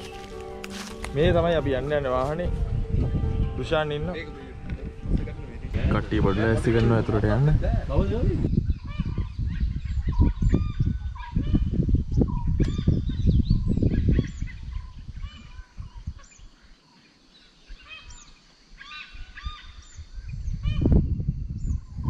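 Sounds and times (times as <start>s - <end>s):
birds calling and chirping: 0.0s - 22.0s.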